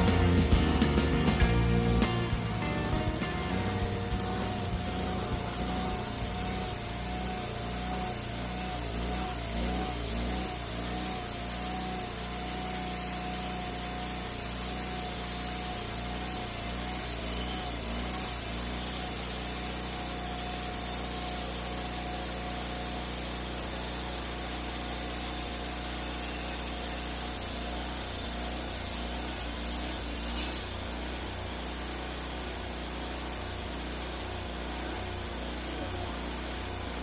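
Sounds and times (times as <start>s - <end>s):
sawmill engine drone: 0.0s - 37.0s
wavering whining tone: 0.0s - 37.0s.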